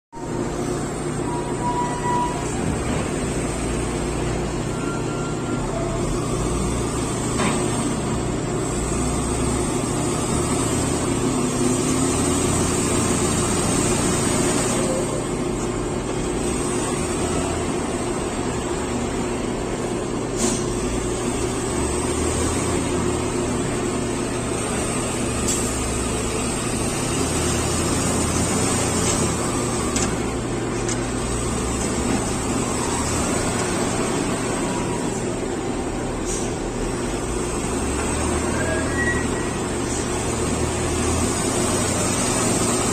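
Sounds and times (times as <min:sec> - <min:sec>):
wheel loader diesel engines: 0:00.2 - 0:42.9.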